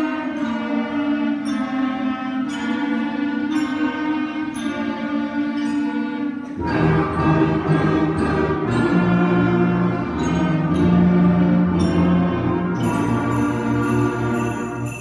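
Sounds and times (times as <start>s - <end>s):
concert band playing: 0.0s - 15.0s.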